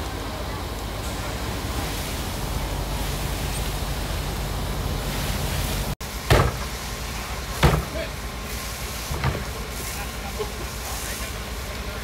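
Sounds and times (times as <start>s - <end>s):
fire hose spraying water: 0.0s - 12.0s.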